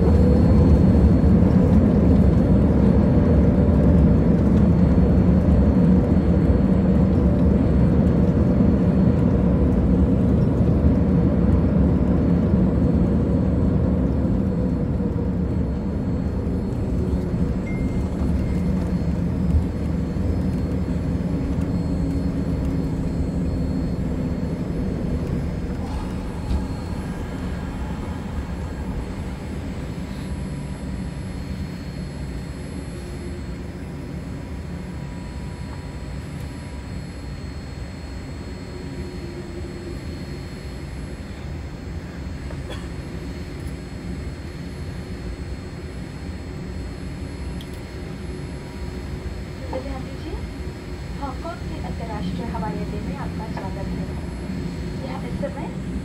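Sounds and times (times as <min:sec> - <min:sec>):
airliner engines and wheels rumbling: 0:00.0 - 0:56.0.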